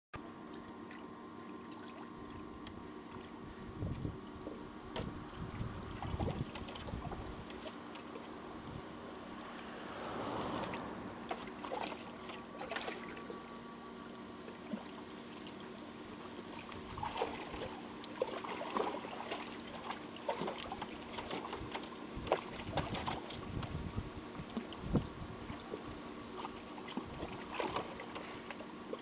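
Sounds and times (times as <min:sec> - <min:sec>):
steady hum: 0:00.2 - 0:29.0
water splashing in a plastic tub: 0:00.2 - 0:29.0.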